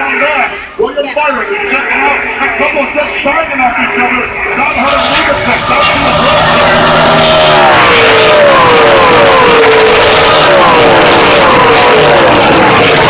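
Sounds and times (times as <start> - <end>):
race trucks passing at full throttle: 2.0 - 13.0.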